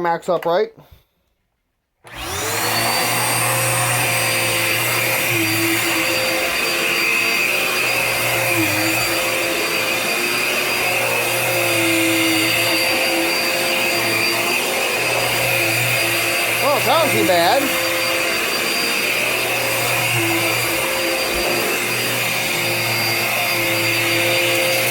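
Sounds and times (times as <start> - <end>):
vacuum cleaner running: 2.0 - 24.9.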